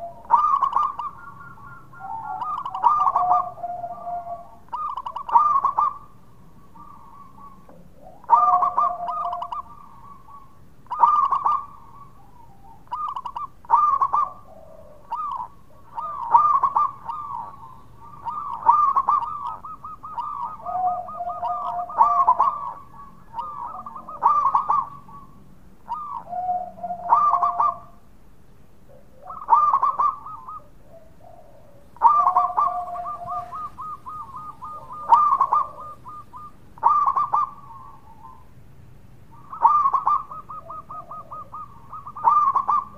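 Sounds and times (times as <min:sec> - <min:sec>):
dove cooing: 0:00.0 - 0:28.1, 0:28.8 - 0:38.6, 0:39.3 - 0:42.9.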